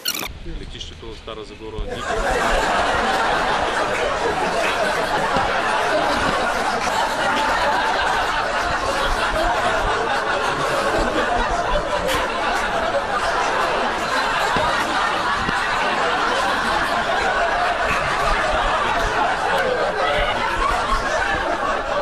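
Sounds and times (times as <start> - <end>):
crowd laughing: 1.9 - 22.0.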